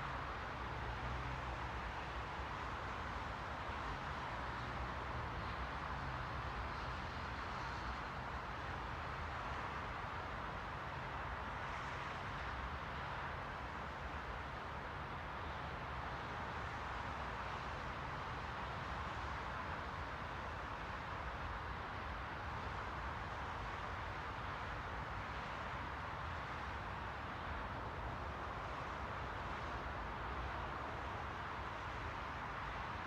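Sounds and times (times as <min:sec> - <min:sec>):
white noise hiss: 0:00.0 - 0:33.0.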